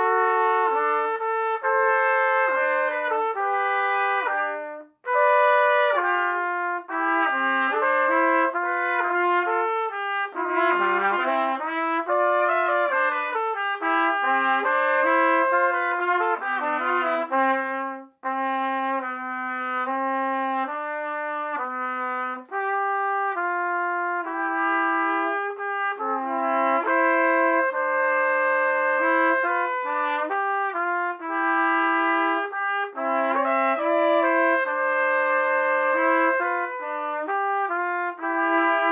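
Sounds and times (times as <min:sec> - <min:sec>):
trumpet duet: 0:00.0 - 0:38.9.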